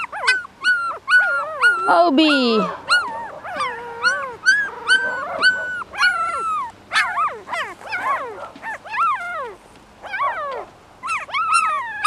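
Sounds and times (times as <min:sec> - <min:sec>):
puppies whining and crying: 0:00.0 - 0:12.0.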